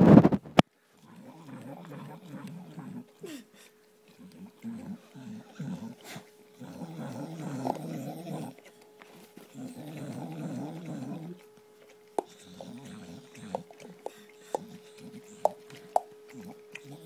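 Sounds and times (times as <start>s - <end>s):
dog growling: 1.0s - 3.5s, 4.1s - 8.8s, 9.4s - 17.0s.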